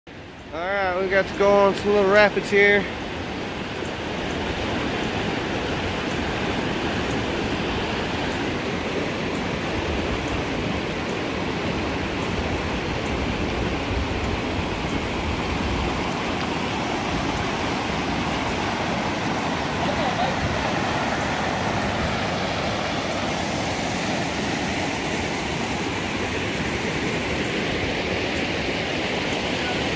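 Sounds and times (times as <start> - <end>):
river rapids rushing: 0.2 - 29.9.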